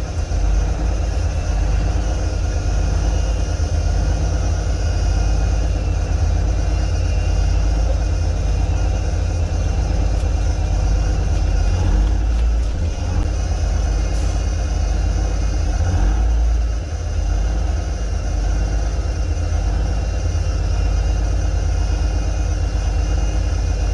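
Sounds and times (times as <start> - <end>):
truck engine idling: 0.0 - 23.9.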